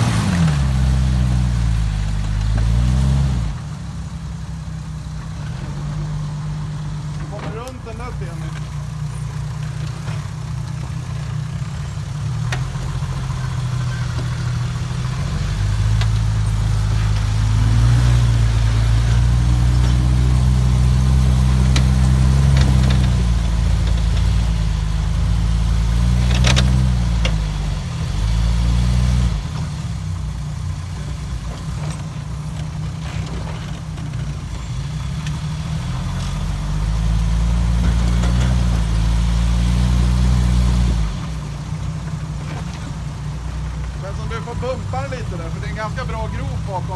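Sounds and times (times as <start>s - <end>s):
engine revving under load: 0.0s - 46.9s.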